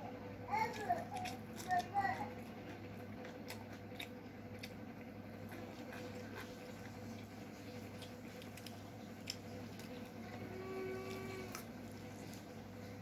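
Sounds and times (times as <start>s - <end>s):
chewing and wet squishes: 0.0s - 13.0s
faint steady hum: 0.0s - 13.0s.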